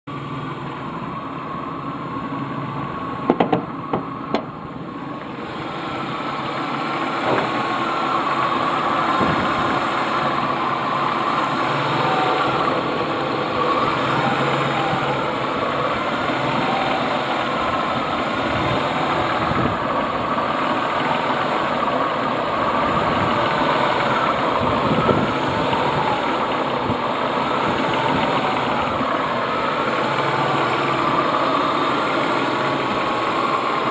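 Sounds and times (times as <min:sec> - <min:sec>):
car engine idling roughly: 0:00.2 - 0:33.9.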